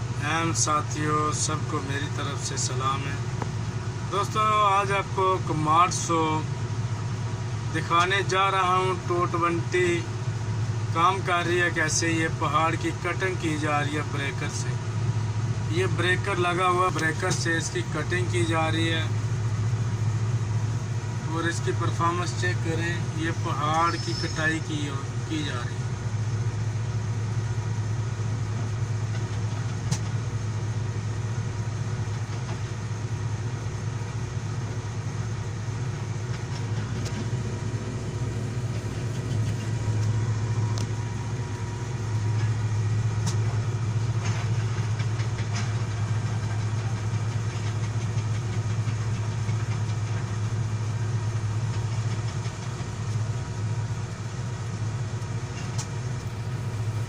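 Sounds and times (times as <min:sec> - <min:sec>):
excavator diesel engine humming: 0:00.0 - 0:57.0.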